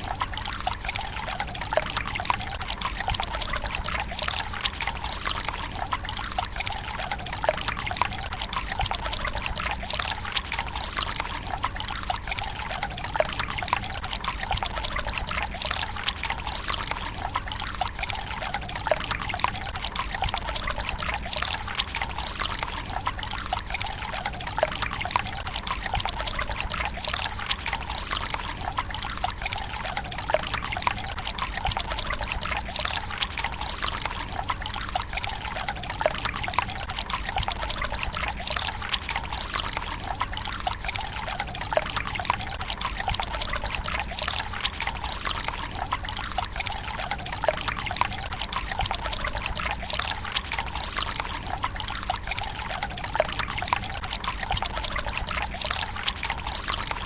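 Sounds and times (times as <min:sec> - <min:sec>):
water splashes and drips: 0:00.0 - 0:57.0
water trickling into stone basin: 0:00.0 - 0:57.0.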